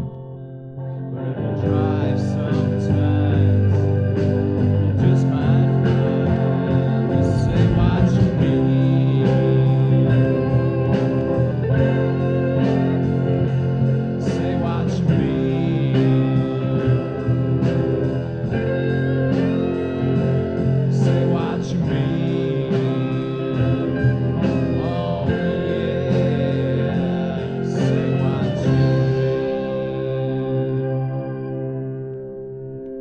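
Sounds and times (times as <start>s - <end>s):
band playing slow blues on guitars: 0.0s - 33.0s.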